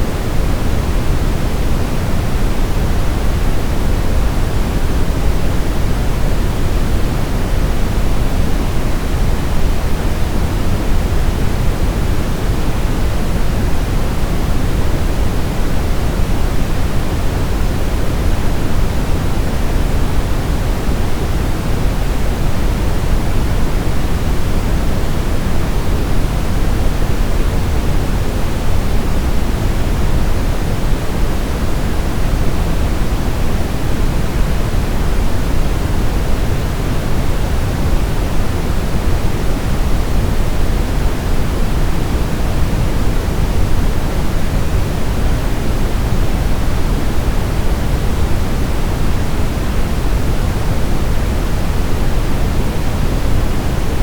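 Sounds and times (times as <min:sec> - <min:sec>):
brown noise rumbling hiss: 0:00.0 - 0:54.0.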